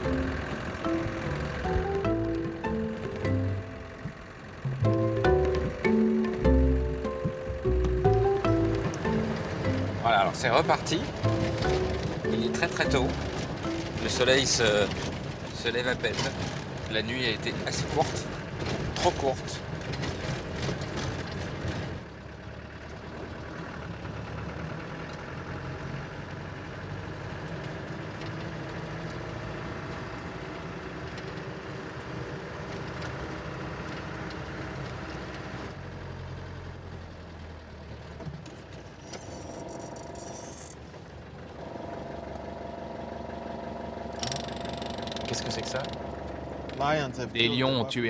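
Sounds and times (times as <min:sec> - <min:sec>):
vehicle engine hum: 0:00.0 - 0:48.0.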